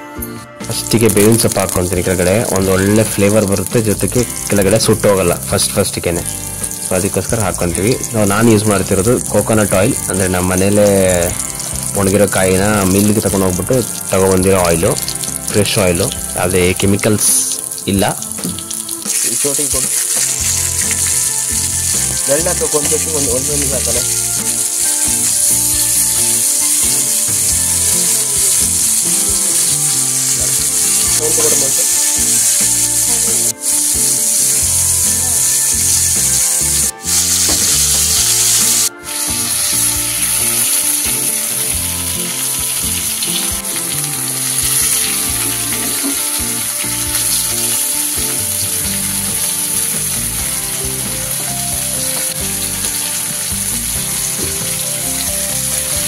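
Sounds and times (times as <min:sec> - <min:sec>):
fish frying with loud sizzle: 0:00.0 - 0:56.0.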